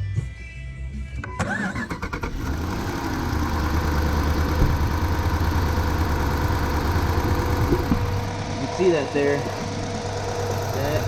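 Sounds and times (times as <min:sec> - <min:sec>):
engine cranking and idling roughly: 0:01.4 - 0:11.0.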